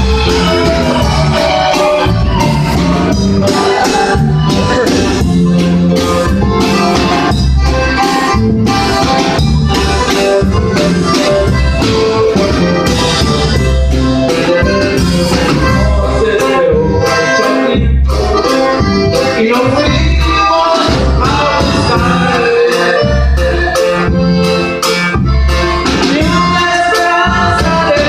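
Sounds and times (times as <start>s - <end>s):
accordion melody: 0.0s - 28.0s
drum kit beat: 0.0s - 28.0s
pulsing bass: 0.0s - 28.0s.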